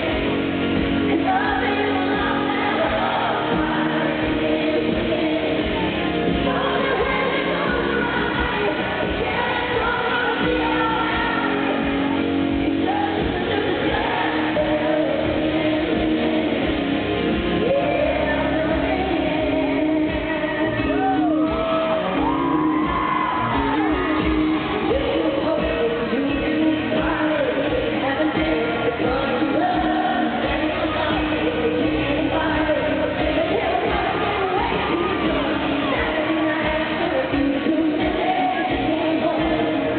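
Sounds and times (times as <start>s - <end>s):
woman singing with band: 0.0s - 39.9s.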